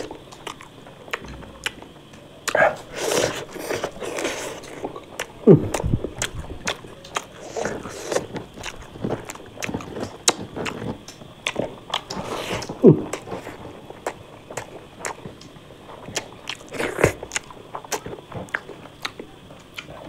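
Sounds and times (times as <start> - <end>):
person chewing with mouth smacks: 0.0 - 20.0.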